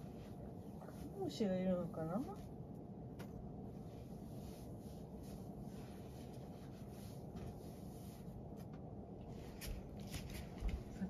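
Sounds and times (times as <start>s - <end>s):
soft rustling and scratching: 0.0s - 2.8s, 3.6s - 11.0s
steady low hum: 0.0s - 11.0s.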